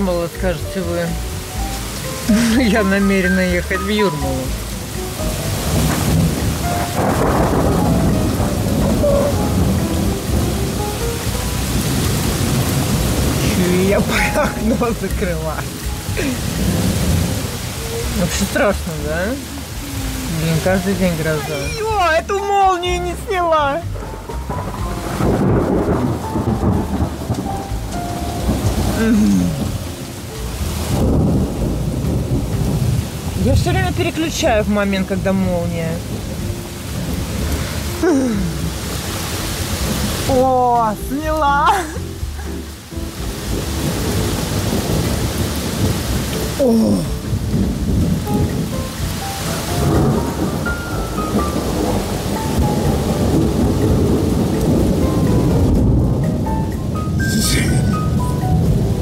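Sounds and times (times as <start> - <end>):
steady rain falling: 0.0 - 59.0
thunder rumbling: 0.0 - 59.0.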